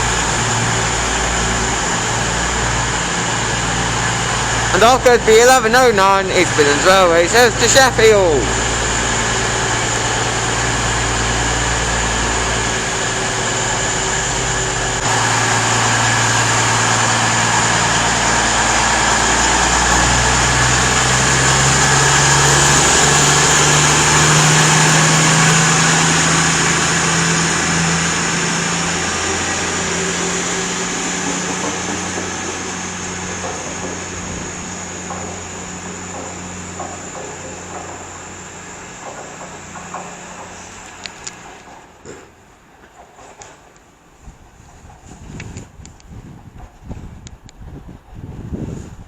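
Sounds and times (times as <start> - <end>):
high whine and hiss: 0.0 - 42.1
diesel train engines running: 0.0 - 49.0.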